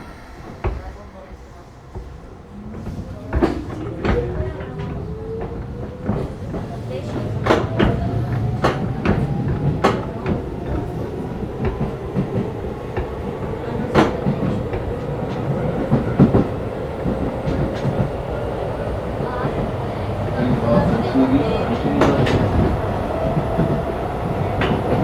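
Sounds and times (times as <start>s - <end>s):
train running rumble: 0.0s - 25.0s
wheels clacking over rail joints: 2.7s - 25.0s.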